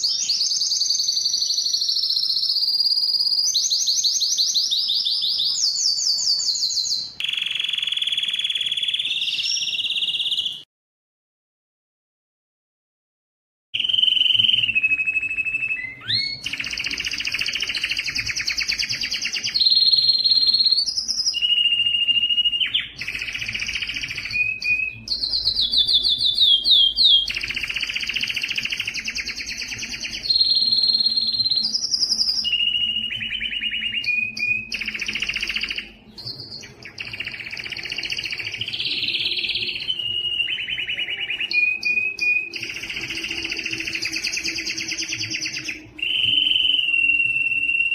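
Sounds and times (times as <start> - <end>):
canary singing trills: 0.0 - 10.6, 13.8 - 47.9.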